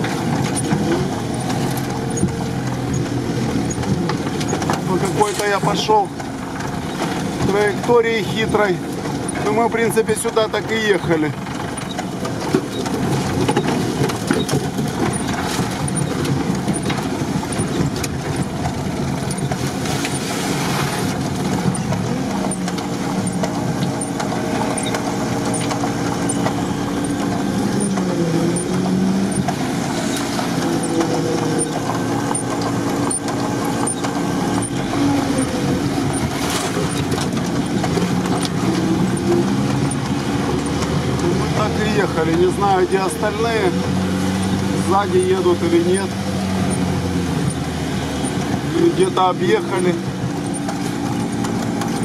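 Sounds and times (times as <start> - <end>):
engine revving under load: 0.0 - 9.6, 10.2 - 52.0
knocks and rattles: 0.0 - 52.0.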